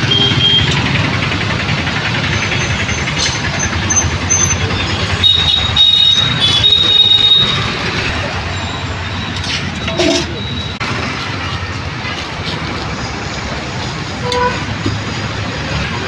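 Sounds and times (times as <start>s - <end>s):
roadside traffic rumble: 0.0s - 16.0s.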